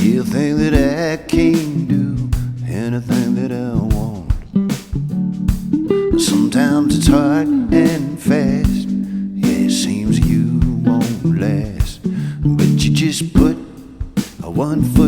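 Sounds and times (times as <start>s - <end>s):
person singing: 0.0s - 4.6s, 5.9s - 15.0s
acoustic guitar: 0.0s - 15.0s.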